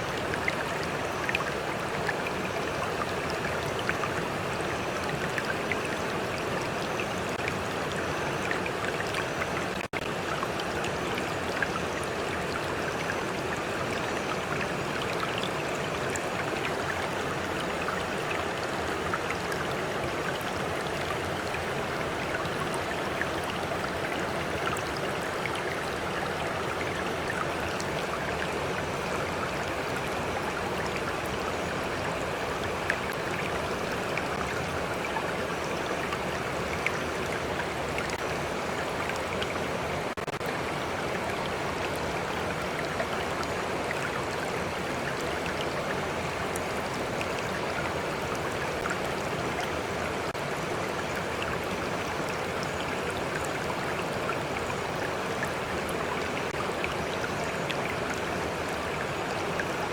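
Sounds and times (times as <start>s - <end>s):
small water splashes and drips: 0.0s - 59.9s
stream flowing: 0.0s - 59.9s.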